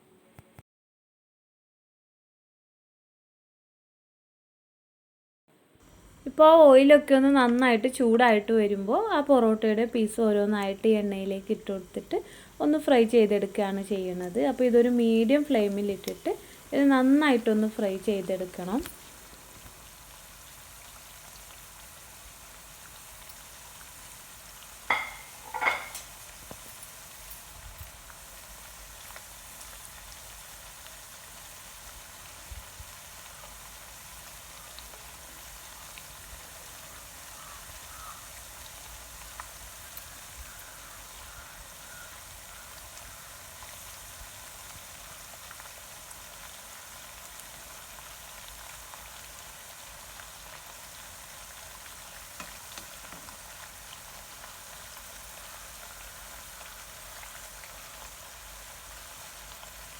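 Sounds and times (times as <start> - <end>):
flatbread frying in hot oil: 5.9 - 59.9.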